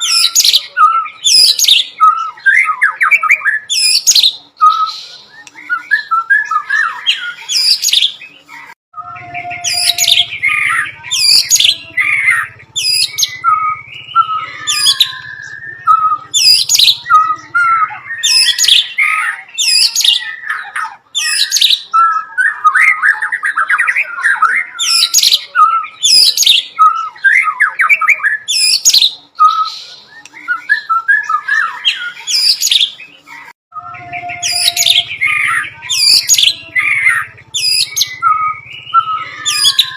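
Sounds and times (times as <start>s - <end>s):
bird singing loudly: 0.0s - 39.9s.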